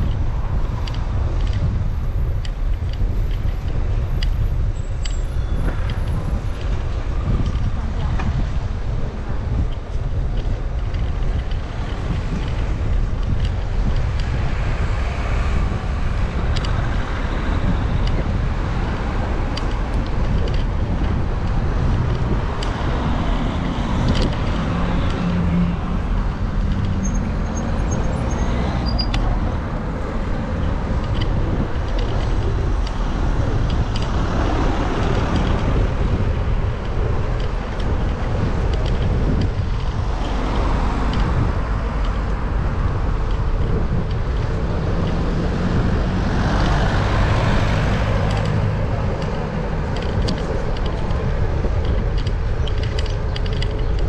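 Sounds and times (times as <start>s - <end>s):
cars passing: 0.0s - 54.0s
road and wind noise: 0.0s - 54.0s.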